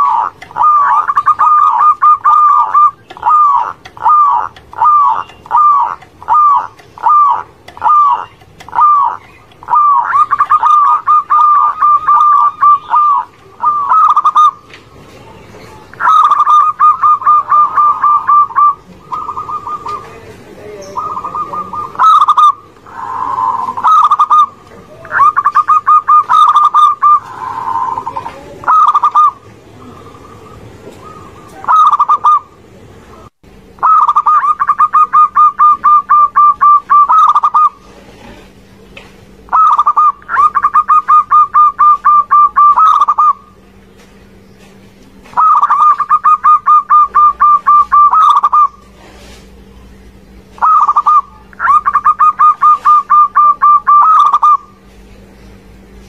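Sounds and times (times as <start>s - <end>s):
doves cooing: 0.0s - 56.0s
faint steady hum: 0.0s - 56.0s.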